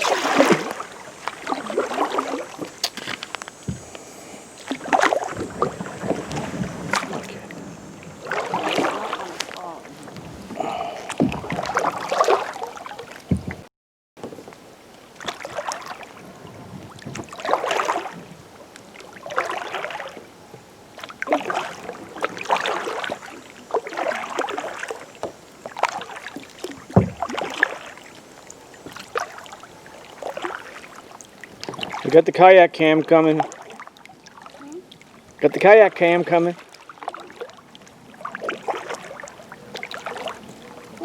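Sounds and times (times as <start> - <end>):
paddle strokes splashing water: 0.0 - 41.0.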